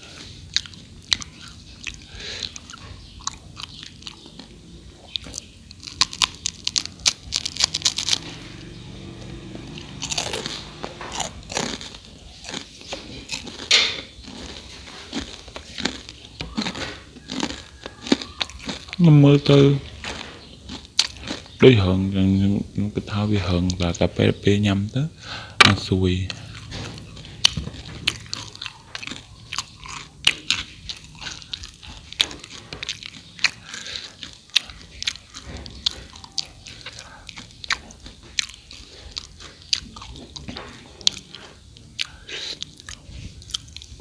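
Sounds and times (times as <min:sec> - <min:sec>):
crisp chewing crunches: 0:00.0 - 0:21.8, 0:26.3 - 0:44.0.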